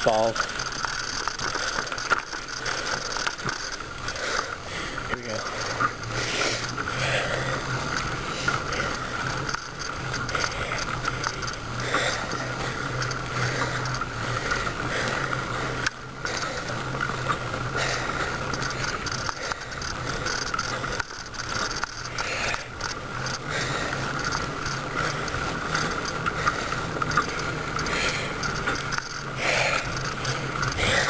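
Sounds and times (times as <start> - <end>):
bicycle chain clicking and rattling: 0.0 - 31.0
steady rushing noise: 0.0 - 31.0.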